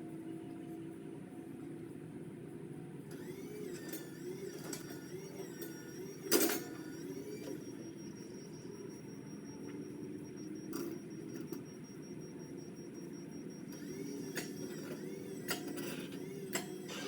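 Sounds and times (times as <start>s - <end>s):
power cutter motor whine: 3.1s - 17.0s.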